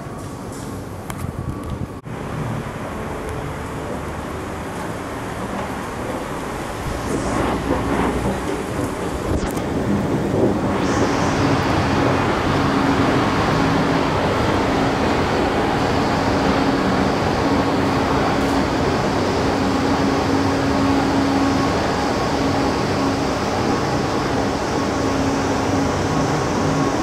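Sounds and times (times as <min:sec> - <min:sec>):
escalator mechanical rumble: 0:00.0 - 0:27.0
ventilation noise: 0:00.0 - 0:27.0.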